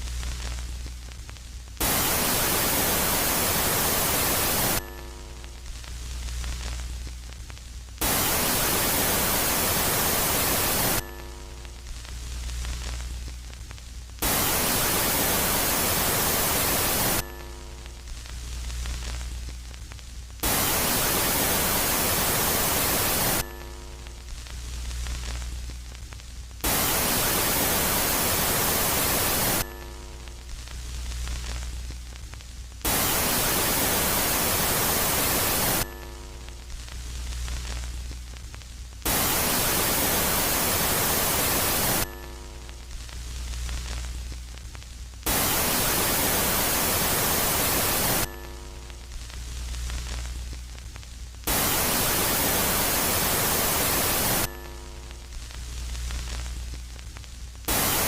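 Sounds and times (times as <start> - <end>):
loud static bursts: 0.0 - 58.0
low hum with faint tones: 0.0 - 58.0.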